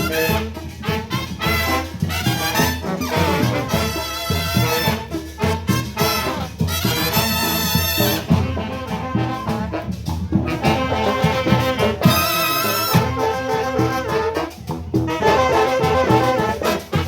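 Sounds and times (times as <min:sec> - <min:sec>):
brass band playing latin dance tune: 0:00.0 - 0:17.0.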